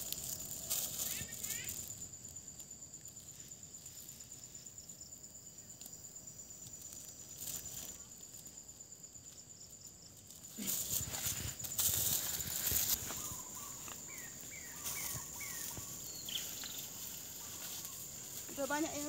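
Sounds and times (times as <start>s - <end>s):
insect trilling: 0.0s - 19.0s
rustling through leaves: 0.0s - 19.0s.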